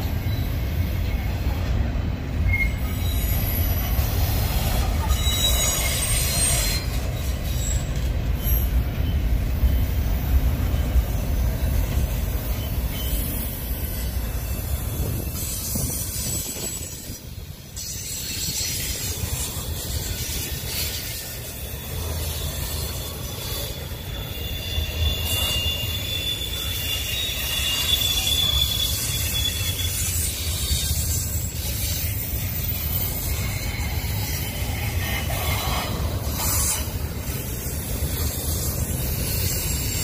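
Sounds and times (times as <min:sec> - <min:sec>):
steel wheels rumbling on rail: 0:00.0 - 0:40.0
high-pitched wheel squeal: 0:02.4 - 0:40.0.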